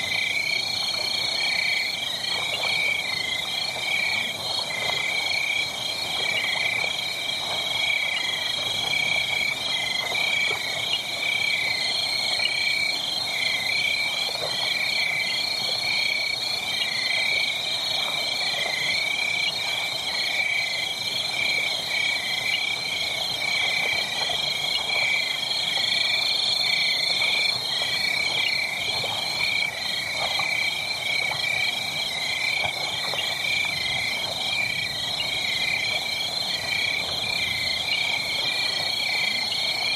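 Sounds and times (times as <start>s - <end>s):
faint crackles: 0.0s - 13.0s, 13.7s - 16.2s, 22.5s - 39.9s.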